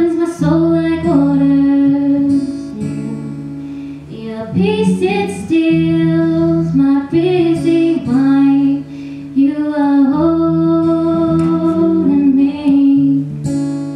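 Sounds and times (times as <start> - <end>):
girl singing slow worship song: 0.0 - 13.9
strummed acoustic guitar: 0.0 - 13.9.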